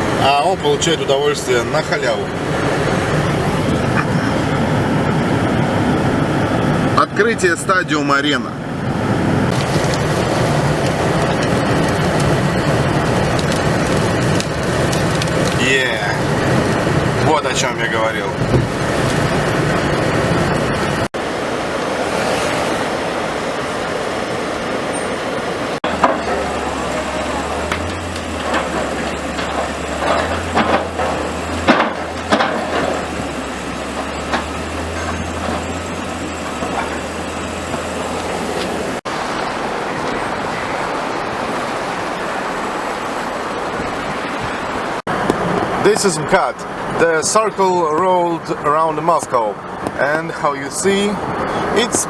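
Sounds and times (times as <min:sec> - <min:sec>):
car road and engine noise: 0:00.0 - 0:52.0.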